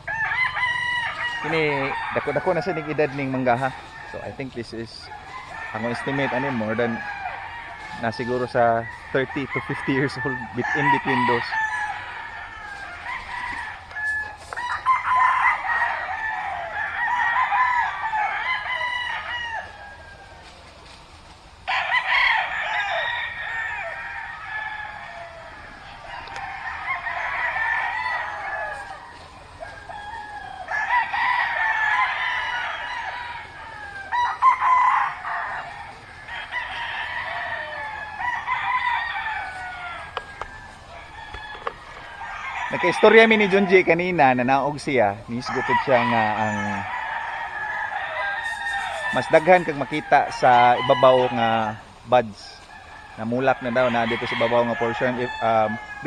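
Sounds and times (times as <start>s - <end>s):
roosters crowing: 0.0s - 56.0s.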